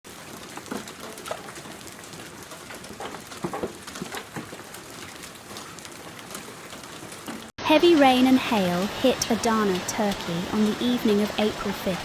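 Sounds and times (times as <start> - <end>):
hail and heavy rain: 0.1 - 12.0.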